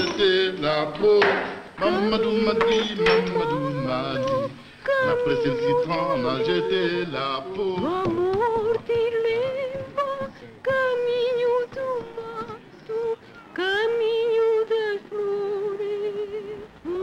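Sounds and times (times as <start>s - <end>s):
woman singing high held notes: 1.8s - 17.0s.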